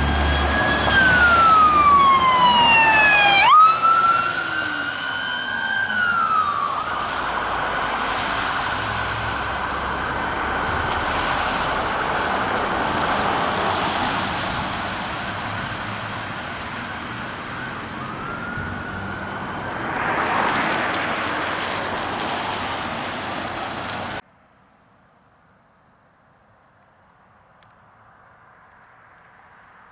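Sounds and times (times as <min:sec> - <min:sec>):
emergency vehicle siren: 0:00.0 - 0:24.2
vehicle and road noise: 0:00.0 - 0:29.9.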